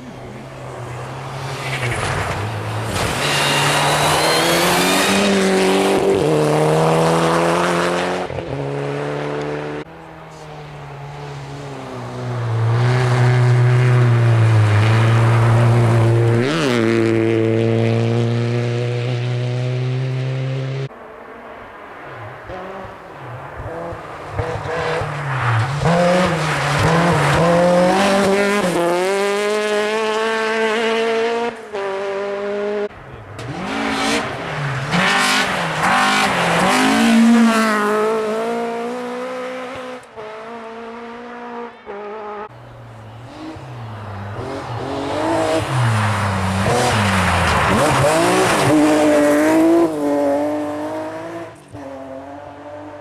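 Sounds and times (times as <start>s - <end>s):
rally car engines revving: 0.0s - 20.9s, 22.2s - 53.0s.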